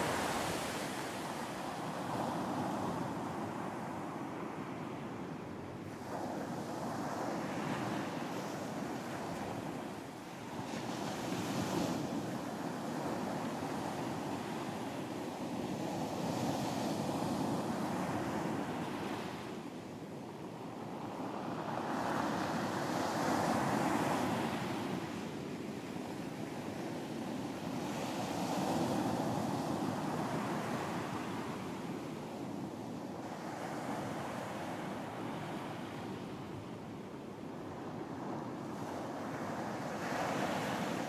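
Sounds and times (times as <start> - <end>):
wind: 0.0 - 41.0.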